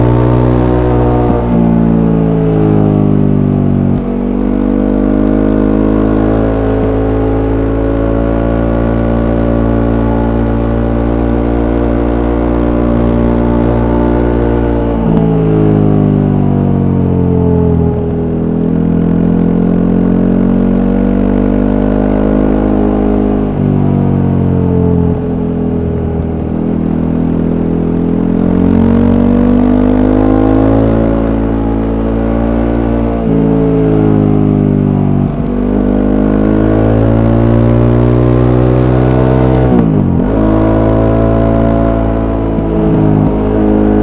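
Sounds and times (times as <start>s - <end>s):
motorcycle engine while riding: 0.0s - 44.0s.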